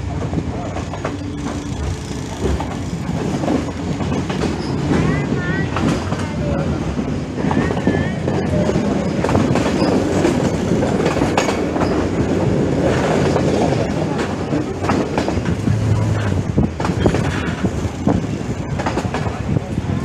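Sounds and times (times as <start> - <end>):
train running noise: 0.0 - 20.0
train wheels clickety-clack: 0.0 - 20.0.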